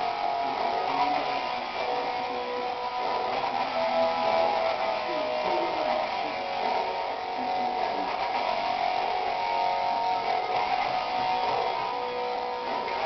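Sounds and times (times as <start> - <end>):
guitar music: 0.0 - 13.0.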